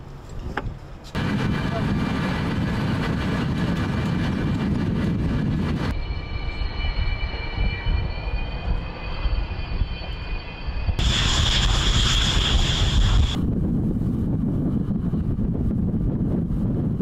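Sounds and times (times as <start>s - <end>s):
jet engines whining: 1.2s - 17.0s.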